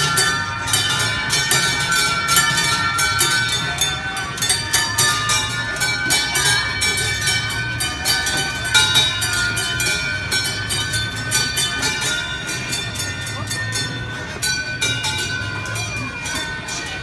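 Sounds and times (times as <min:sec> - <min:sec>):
small bells dinging: 0:00.0 - 0:17.0.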